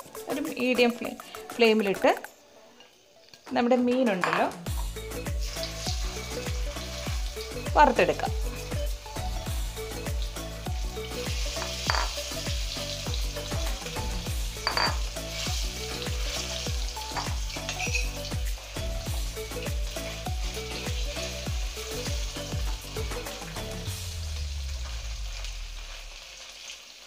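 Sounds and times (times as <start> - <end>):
fish sizzling in hot oil: 4.7 - 27.0.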